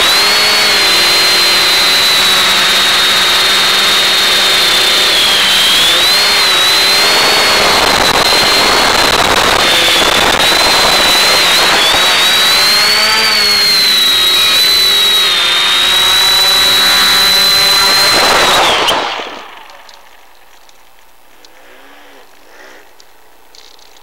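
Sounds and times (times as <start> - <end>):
quadcopter motors whining: 0.0 - 20.2.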